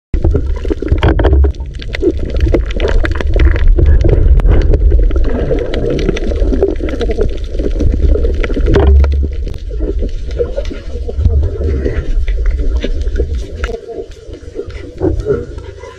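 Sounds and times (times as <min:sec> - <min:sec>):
underwater low rumble: 0:00.1 - 0:15.9
water gurgling: 0:00.2 - 0:15.9.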